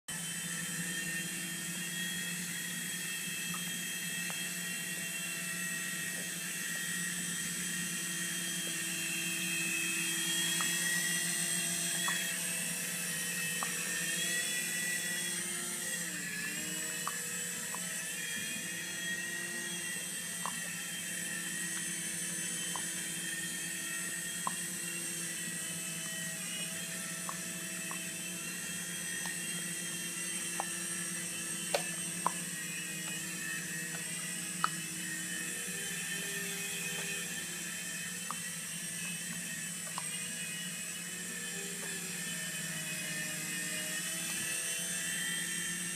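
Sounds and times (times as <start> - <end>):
toy helicopter motors whining: 0.1 - 45.9.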